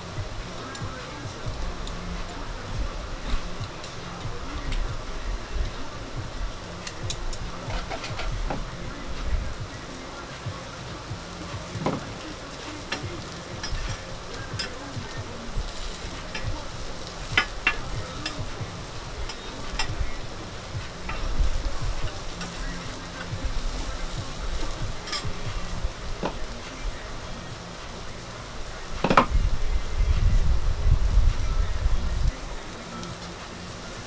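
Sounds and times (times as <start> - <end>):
meat sizzling on griddle: 0.0 - 34.0.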